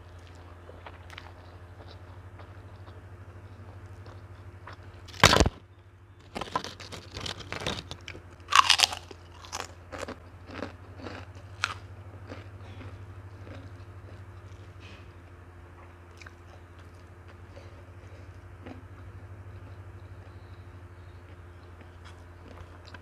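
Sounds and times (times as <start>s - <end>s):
cracker crunching and chewing: 0.0s - 23.0s
low steady hum: 0.0s - 23.0s.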